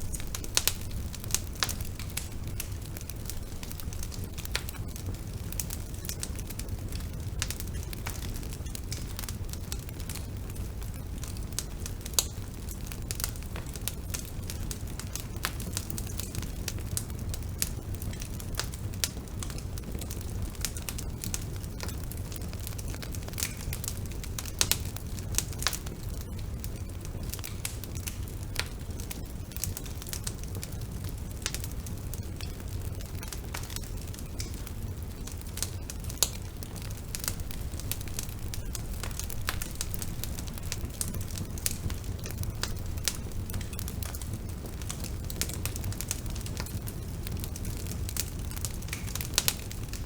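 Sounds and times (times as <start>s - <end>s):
burning wood crackling and popping: 0.0s - 50.0s
low rumble of flames: 0.0s - 50.0s.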